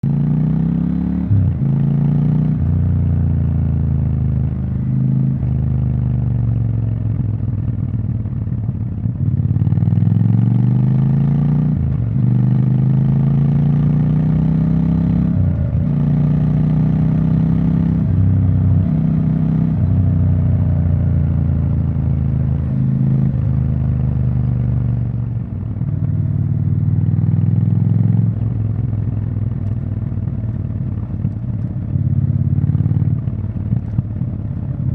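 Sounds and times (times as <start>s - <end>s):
motorcycle engine revving: 0.0s - 6.8s, 7.7s - 34.9s.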